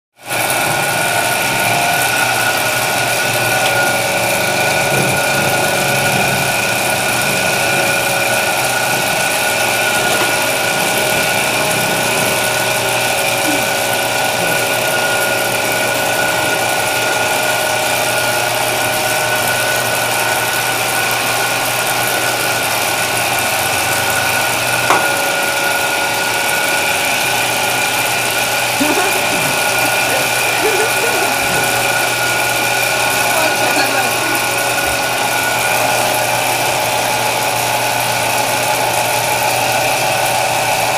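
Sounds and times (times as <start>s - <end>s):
dough roller machine humming: 0.2s - 40.9s.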